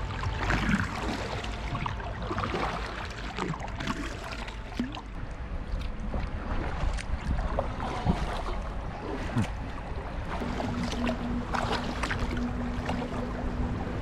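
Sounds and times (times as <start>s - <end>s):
paddle splashes: 0.0s - 14.0s
steady low rumble: 0.0s - 14.0s
water trickling: 0.0s - 14.0s.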